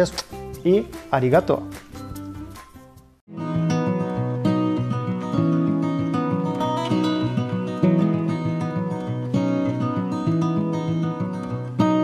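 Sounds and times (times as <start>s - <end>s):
music with held notes: 0.0s - 12.0s.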